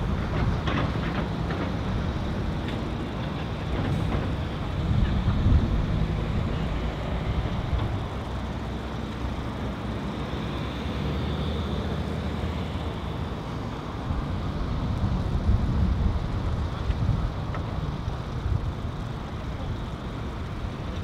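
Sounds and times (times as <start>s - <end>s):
excavator diesel engines running: 0.0s - 21.0s.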